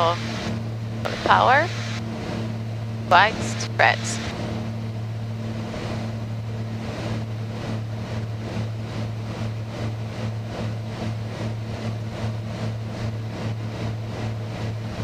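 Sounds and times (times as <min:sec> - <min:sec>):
aircraft engines and propellers droning: 0:00.0 - 0:15.0.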